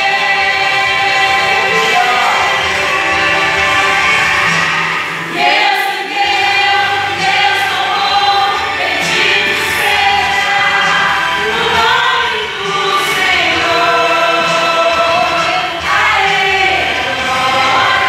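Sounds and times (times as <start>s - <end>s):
women singing gospel song: 0.0s - 18.0s.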